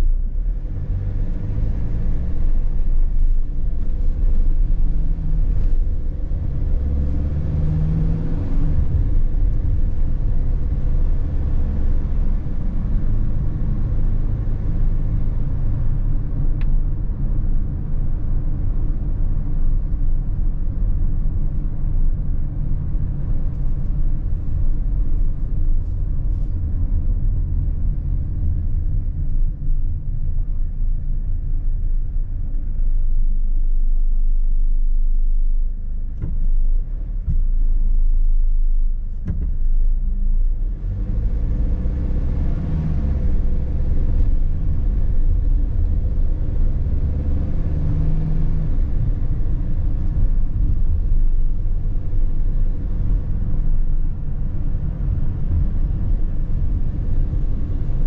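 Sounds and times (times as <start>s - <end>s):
road rumble: 0.0s - 58.0s
van engine: 0.0s - 58.0s.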